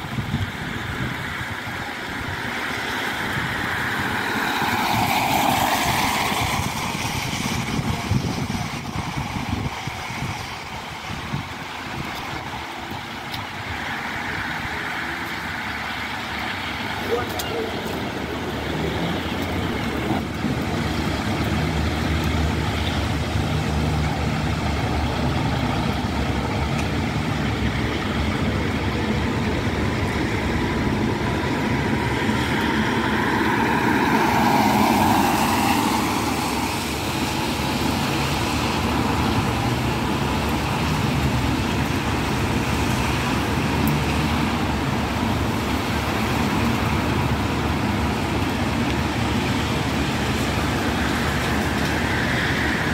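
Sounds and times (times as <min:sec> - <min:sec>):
tyre hiss on wet road: 0:00.0 - 0:52.9.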